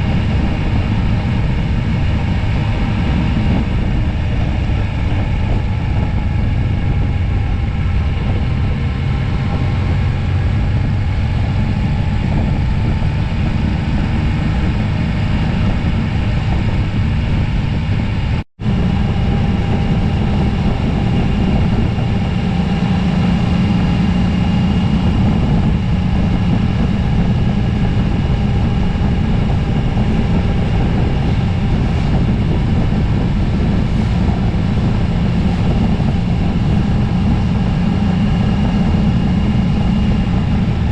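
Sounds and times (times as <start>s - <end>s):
motorcycle engine drone: 0.0s - 40.9s
wind noise: 0.0s - 40.9s.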